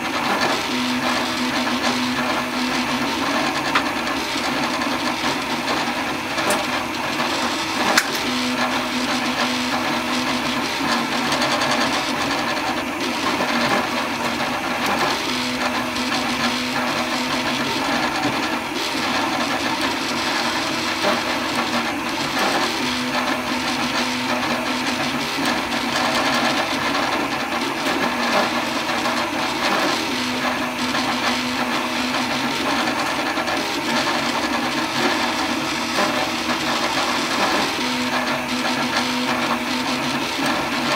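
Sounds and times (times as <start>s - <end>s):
cooling fan whirring: 0.0s - 40.9s.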